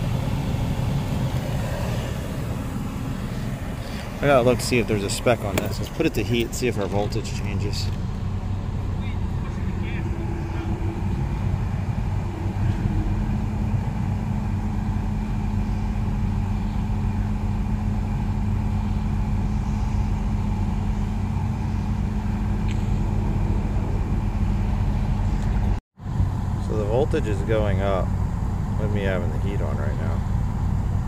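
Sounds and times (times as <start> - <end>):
car engine idling: 0.0 - 31.0
steady hum: 0.0 - 31.0.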